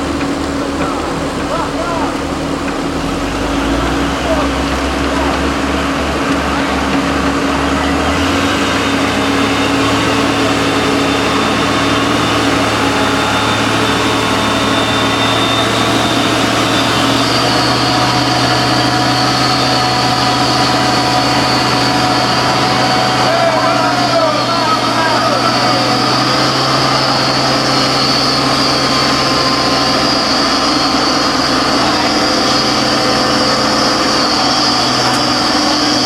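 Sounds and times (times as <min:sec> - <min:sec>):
heavy truck engine running: 0:00.0 - 0:36.0.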